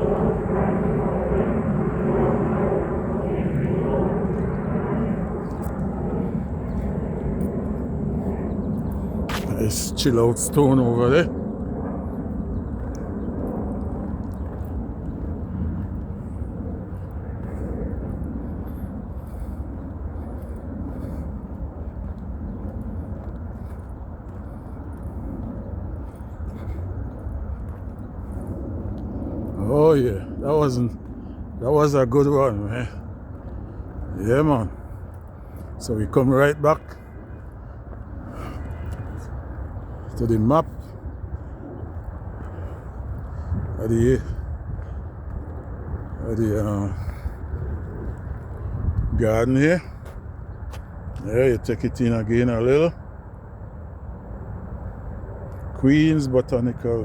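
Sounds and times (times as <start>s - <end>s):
distant engine rumble: 0.0s - 56.9s.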